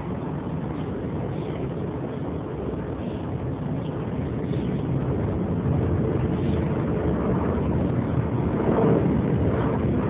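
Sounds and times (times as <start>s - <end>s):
steady low rumbling: 0.0s - 10.0s.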